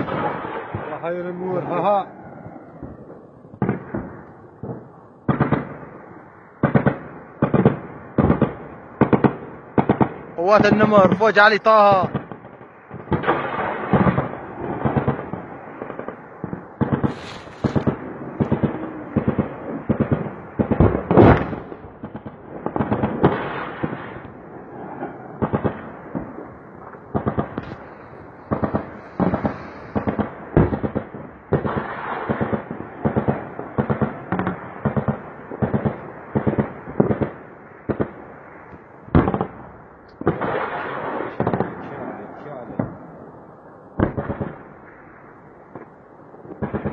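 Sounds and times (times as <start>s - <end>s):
distant gunfire and explosions: 0.0s - 46.9s.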